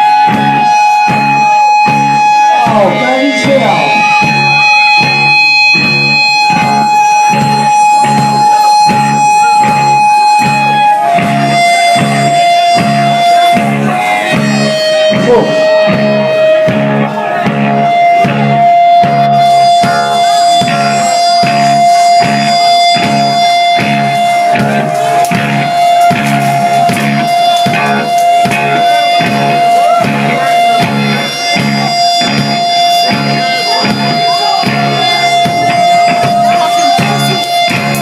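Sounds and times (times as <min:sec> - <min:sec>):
bass and drums pulse: 0:00.0 - 0:38.0
electric guitar high note: 0:00.0 - 0:38.0
punk band playing live: 0:00.0 - 0:38.0
steady high tone: 0:00.0 - 0:38.0.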